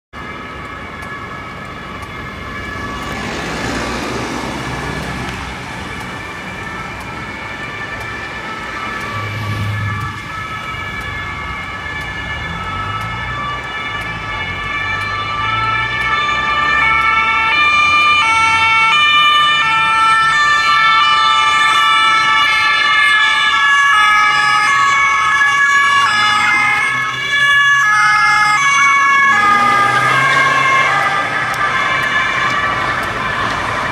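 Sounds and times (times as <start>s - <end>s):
two-tone police sirens: 0.1s - 33.9s.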